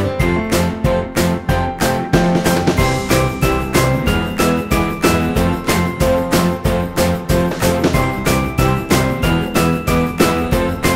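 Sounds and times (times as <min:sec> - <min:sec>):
music with bell-like melody: 0:00.0 - 0:10.9.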